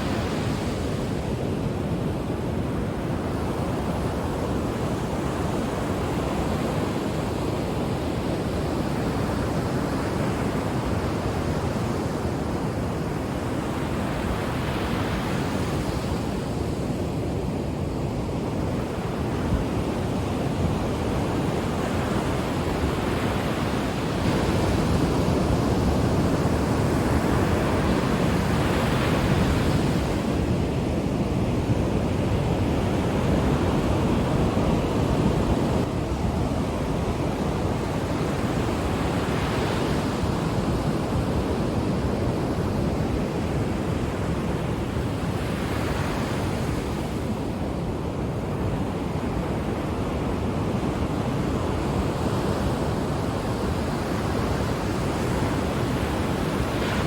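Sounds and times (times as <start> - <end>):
ocean waves washing onto shore: 0.0 - 57.0
wind on microphone: 0.0 - 57.0.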